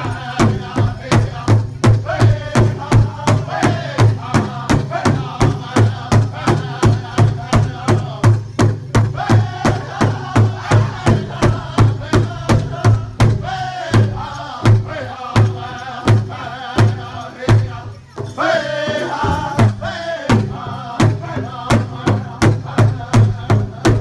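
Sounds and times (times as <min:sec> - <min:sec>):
group singing in high voices: 0:00.0 - 0:24.0
large hide drum beating: 0:00.0 - 0:24.0.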